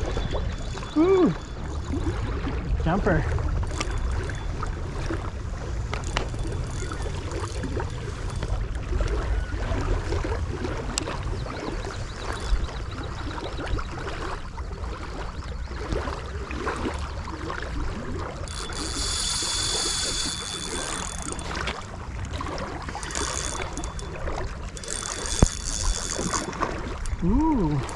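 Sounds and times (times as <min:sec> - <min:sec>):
water lapping and splashing: 0:00.0 - 0:27.9.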